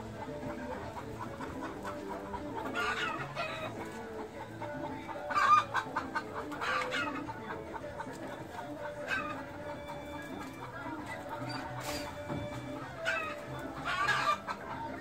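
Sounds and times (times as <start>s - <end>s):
fowl clucking and calling: 0.0s - 15.0s.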